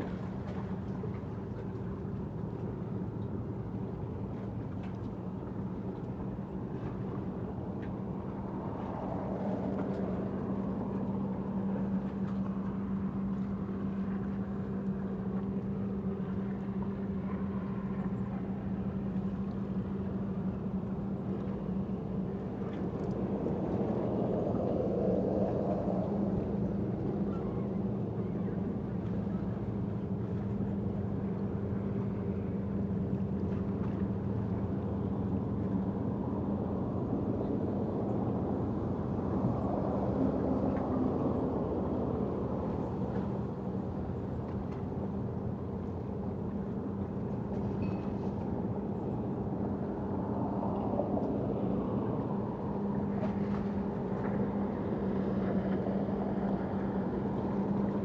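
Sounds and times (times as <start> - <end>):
distant motor traffic: 0.0 - 58.0.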